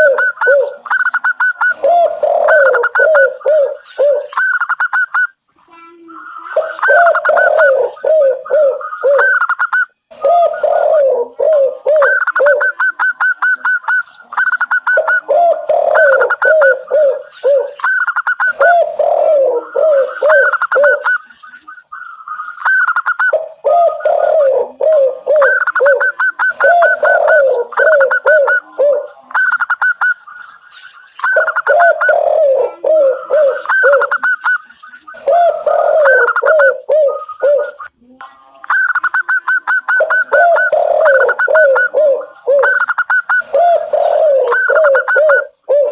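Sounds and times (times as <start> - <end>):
doves cooing: 0.0 - 5.2, 6.1 - 37.9, 39.0 - 45.9.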